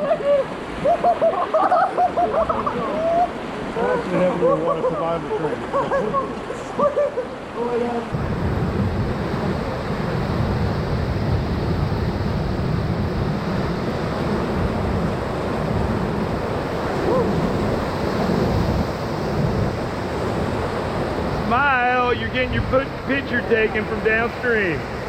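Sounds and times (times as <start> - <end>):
whitewater rushing: 0.0 - 25.0.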